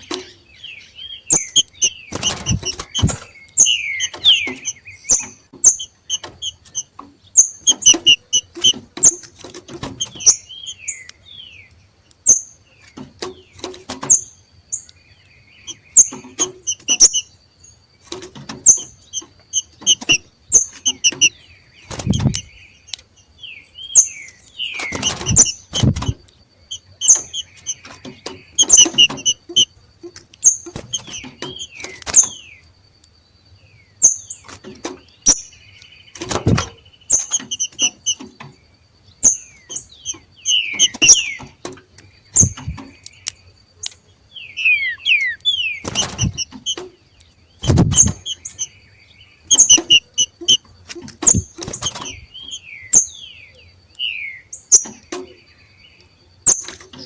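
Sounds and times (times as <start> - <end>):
bird calls with sharp chips: 0.0 - 15.0, 15.6 - 17.4, 18.0 - 33.1, 34.0 - 38.6, 39.2 - 57.0.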